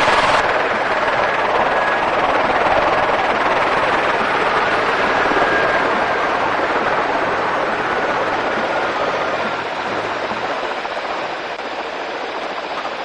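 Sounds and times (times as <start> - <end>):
helicopter cabin rushing noise: 0.0 - 13.0.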